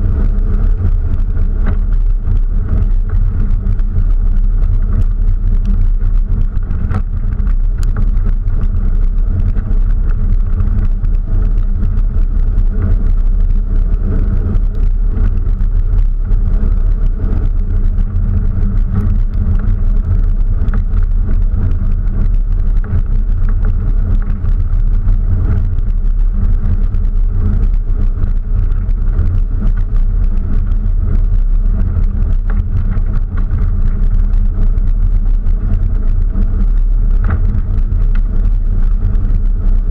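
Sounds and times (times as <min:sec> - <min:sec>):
off-road vehicle engine and tyre rumble: 0:00.0 - 0:39.9
small rattles and clicks: 0:00.0 - 0:39.9.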